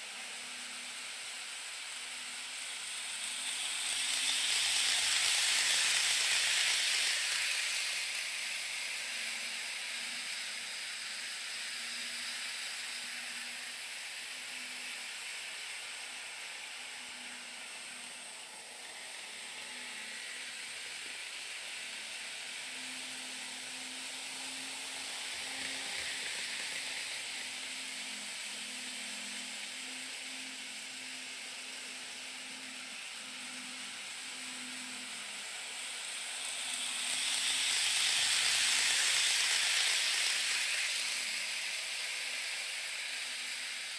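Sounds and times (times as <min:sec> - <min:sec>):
model train whirring past: 0:00.0 - 0:43.9
model trains rolling hiss: 0:00.0 - 0:43.9.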